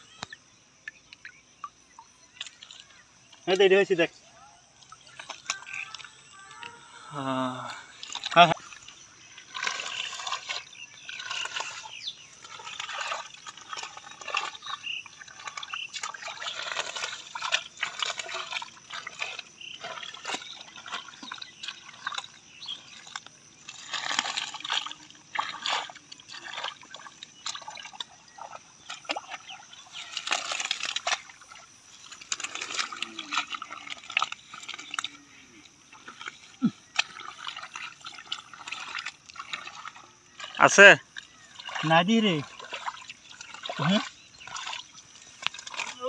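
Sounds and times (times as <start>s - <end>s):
hands squelching in mud and water: 0.0s - 46.0s.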